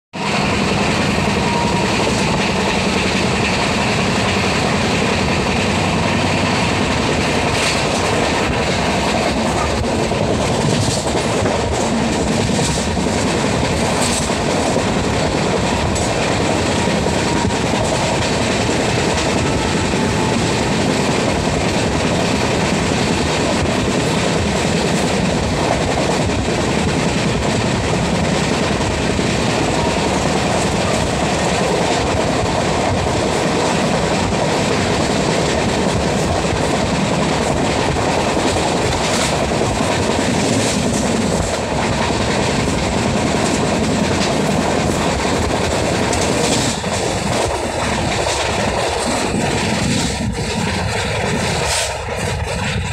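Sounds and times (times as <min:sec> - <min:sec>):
train wheels rumbling on rails: 0:00.1 - 0:52.9.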